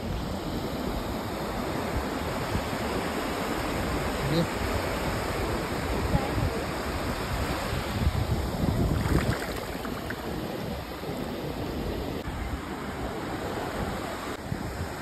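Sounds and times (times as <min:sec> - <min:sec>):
waves washing over sand: 0:00.0 - 0:15.0
wind rumble on microphone: 0:00.0 - 0:15.0.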